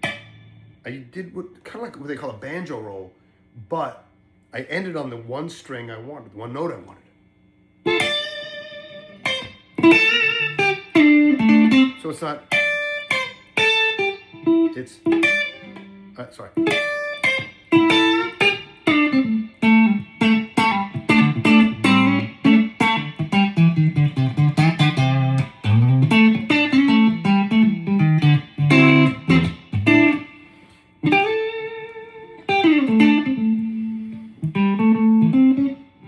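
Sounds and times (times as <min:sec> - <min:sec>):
fingerpicked electric guitar lead: 0:00.0 - 0:00.8, 0:07.8 - 0:36.0.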